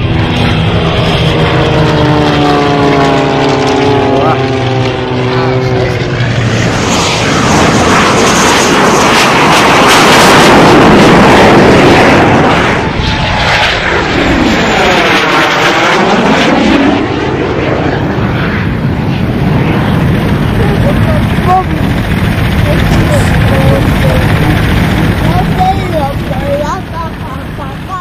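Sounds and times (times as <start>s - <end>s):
aircraft passing low: 0.0s - 28.0s.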